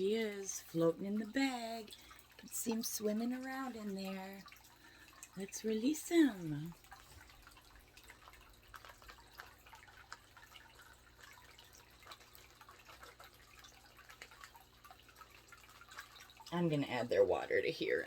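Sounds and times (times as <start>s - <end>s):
water dripping and trickling: 0.0s - 18.0s.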